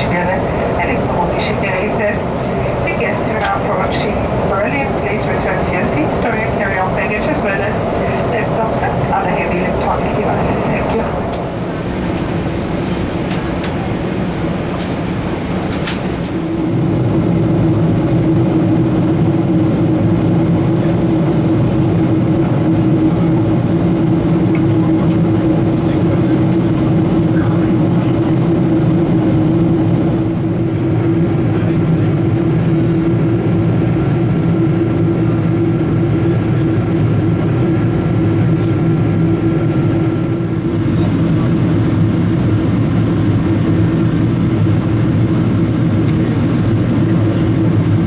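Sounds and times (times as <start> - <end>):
aircraft cabin engine drone: 0.0 - 48.0.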